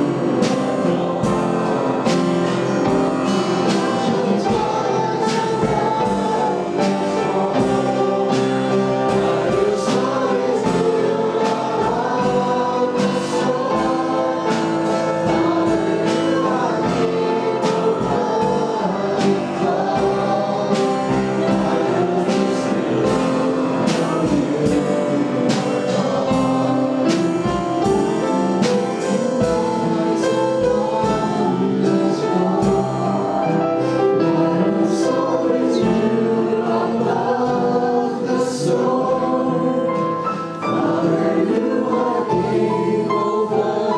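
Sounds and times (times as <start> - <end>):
voices singing together: 0.0 - 43.9
worship band playing: 0.0 - 43.9.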